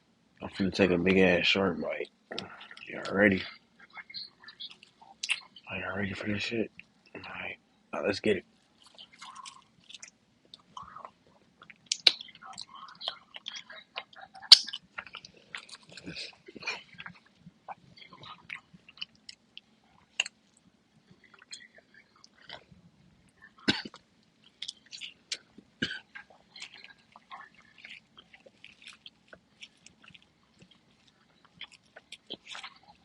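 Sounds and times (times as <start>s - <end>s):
wet chewing mouth smacks: 2.3s - 5.7s, 8.8s - 22.7s, 23.3s - 33.0s.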